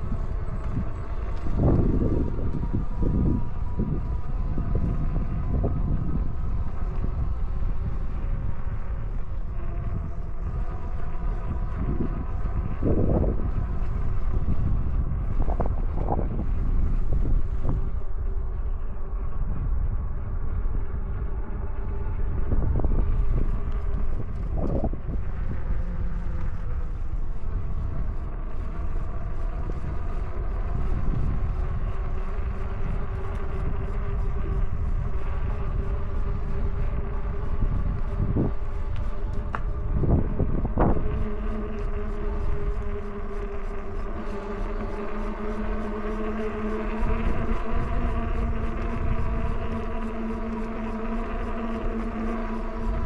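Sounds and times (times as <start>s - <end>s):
electric motor whine: 0.0s - 53.0s
wind buffeting microphone: 0.0s - 53.0s.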